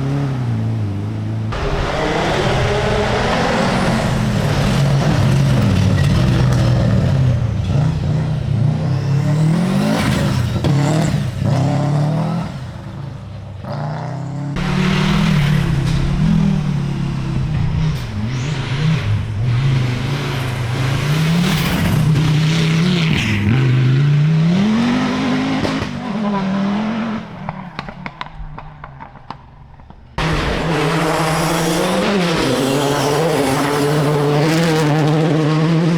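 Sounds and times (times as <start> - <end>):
rally car engines at full throttle: 0.0 - 35.9.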